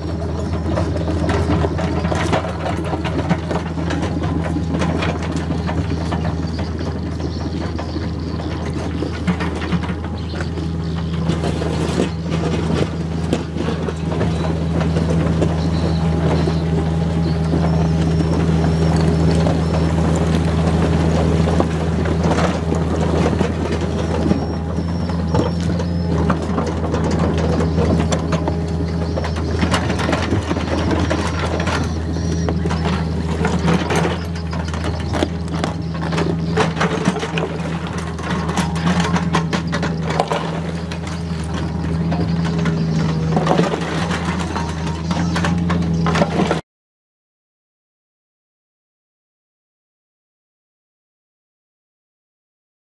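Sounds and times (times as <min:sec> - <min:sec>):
bucket clanking on rubble: 0:00.0 - 0:46.6
excavator diesel engine running: 0:00.0 - 0:46.6.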